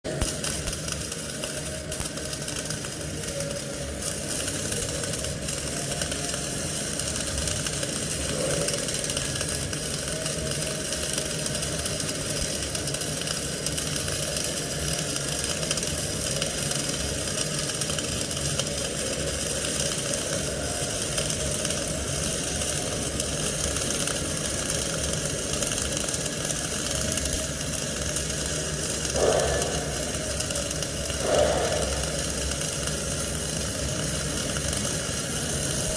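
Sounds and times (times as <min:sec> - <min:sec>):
welding arc crackling and sizzling: 0:00.0 - 0:35.9.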